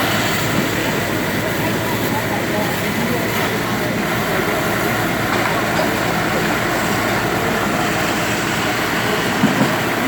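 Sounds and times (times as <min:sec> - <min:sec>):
heavy machinery engine drone: 0:00.0 - 0:10.0
noisy rumble: 0:00.0 - 0:10.0.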